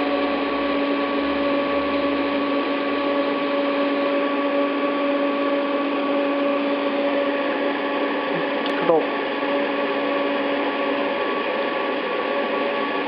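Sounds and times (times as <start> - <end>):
welder electric hum: 0.0 - 13.0.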